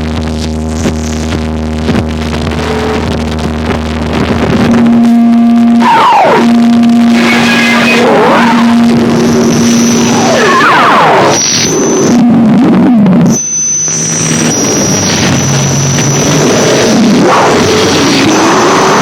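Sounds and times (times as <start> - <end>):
humming drone of steady tones: 0.0 - 19.0.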